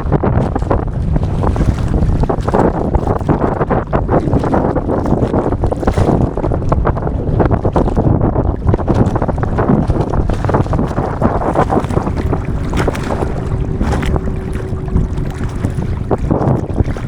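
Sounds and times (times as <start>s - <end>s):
strong wind on microphone: 0.0s - 17.0s
water rushing along hull: 0.0s - 17.0s.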